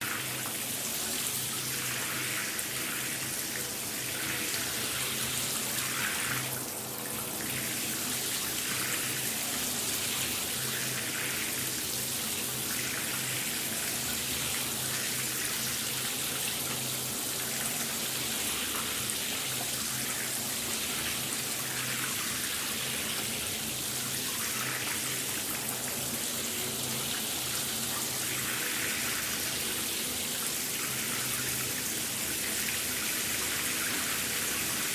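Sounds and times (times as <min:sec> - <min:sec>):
shower water spraying: 0:00.0 - 0:34.9.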